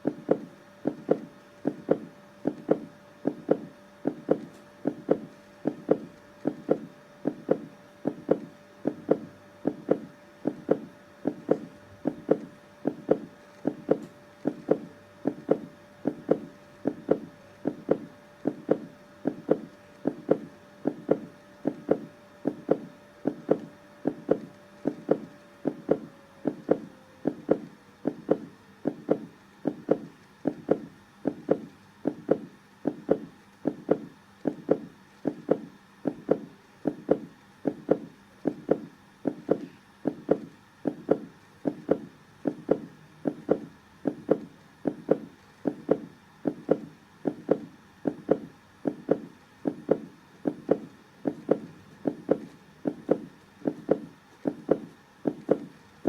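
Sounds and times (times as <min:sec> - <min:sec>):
human heartbeat: 0:00.0 - 0:55.7
faint steady hum: 0:00.0 - 0:56.0.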